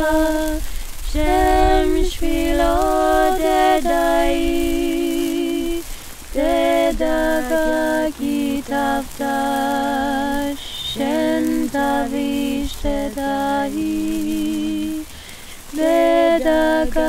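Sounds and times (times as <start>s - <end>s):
voices singing in harmony: 0.0s - 17.0s.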